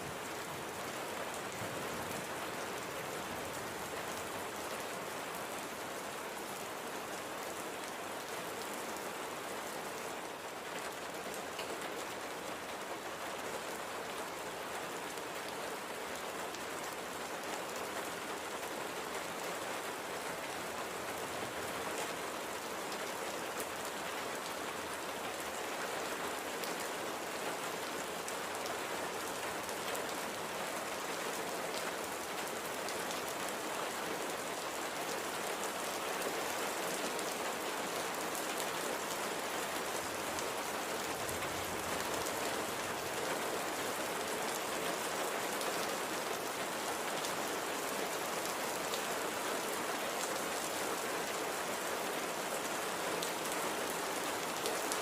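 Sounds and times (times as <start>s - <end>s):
light rain pattering: 0.0s - 55.0s.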